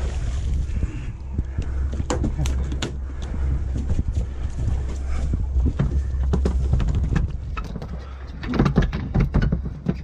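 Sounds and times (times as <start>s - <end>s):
low boat rumble: 0.0s - 10.0s.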